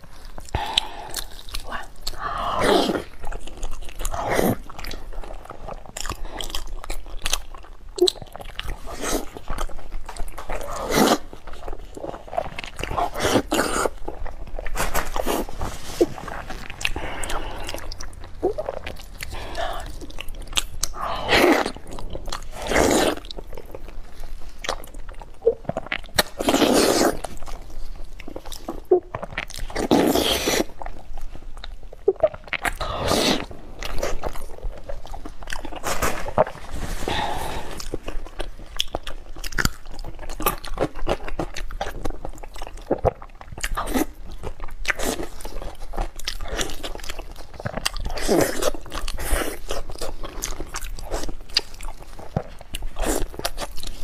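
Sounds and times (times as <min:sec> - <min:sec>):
wet chewing and smacking: 0:00.0 - 0:36.7, 0:37.5 - 0:54.0.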